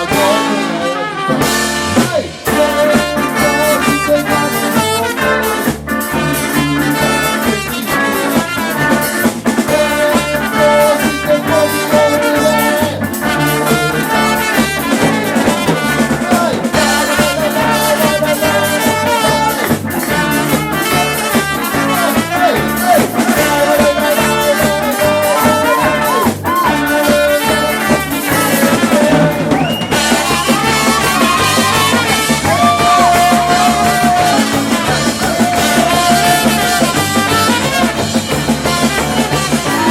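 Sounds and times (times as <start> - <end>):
drum kit beat: 0.0 - 39.9
trumpet and trombone: 0.0 - 39.9.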